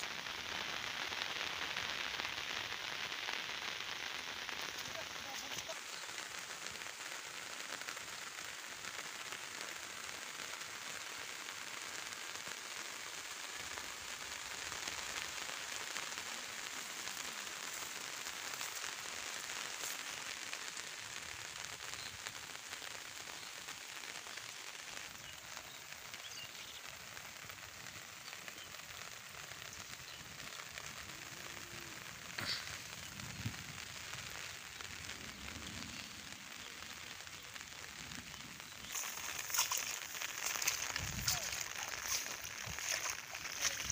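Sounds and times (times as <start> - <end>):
rain on leaves: 0.0 - 43.9.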